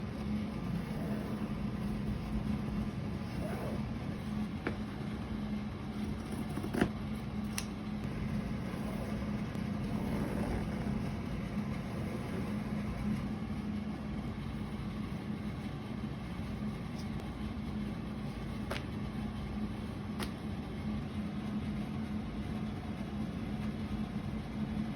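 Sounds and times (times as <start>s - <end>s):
machine hum: 0.0s - 24.9s.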